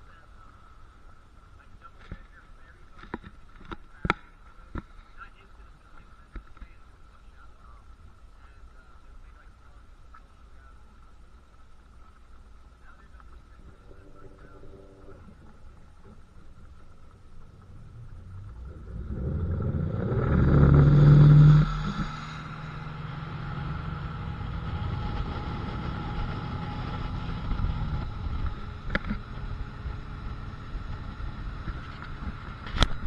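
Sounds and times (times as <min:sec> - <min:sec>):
motorboat engine running: 0:00.0 - 0:33.0.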